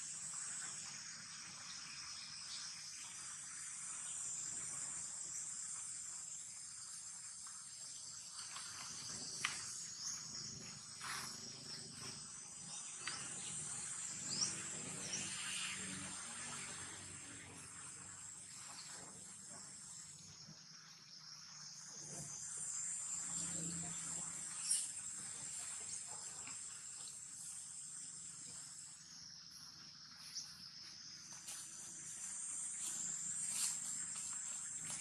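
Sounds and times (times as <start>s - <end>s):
insects chirping chorus: 0.0s - 35.0s.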